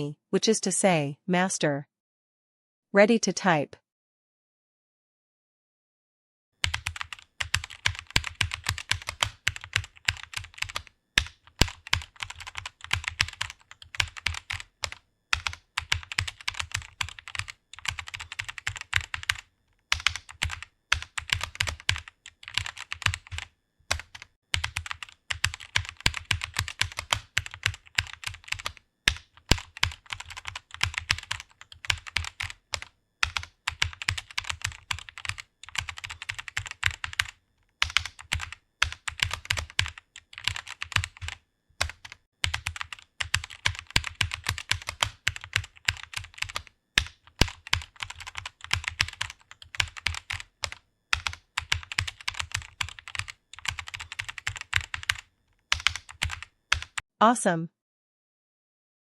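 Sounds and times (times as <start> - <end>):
typing on computer keyboard: 6.6 - 57.0.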